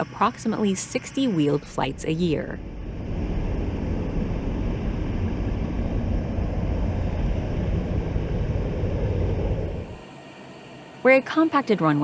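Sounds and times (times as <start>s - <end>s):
aircraft engines rumbling: 0.0s - 10.1s.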